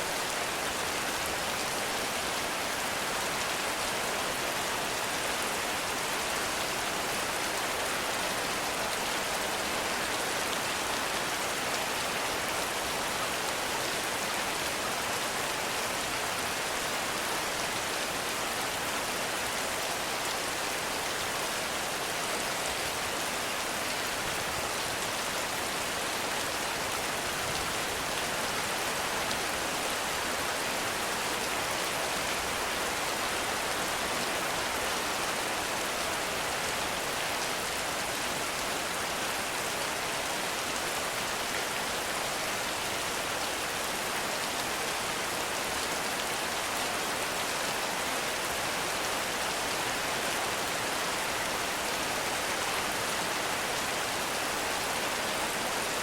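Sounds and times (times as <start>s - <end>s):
heavy rain in forest: 0.0s - 56.0s.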